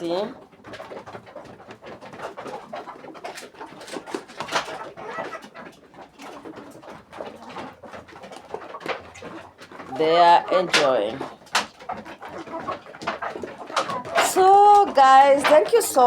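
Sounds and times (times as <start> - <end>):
chickens pecking feed: 0.0 - 16.0
hens clucking: 0.0 - 16.0.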